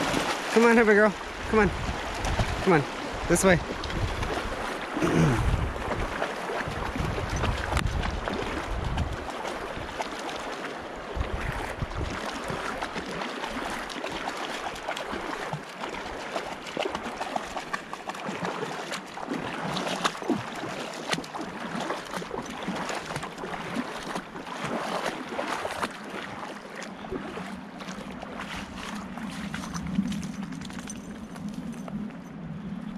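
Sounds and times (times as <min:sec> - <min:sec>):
wading water splashing: 0:00.0 - 0:32.9.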